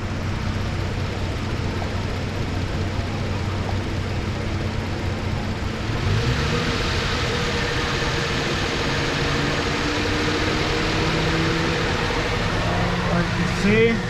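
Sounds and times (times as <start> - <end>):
car engine idling: 0.0 - 14.0
steady whir: 0.0 - 14.0.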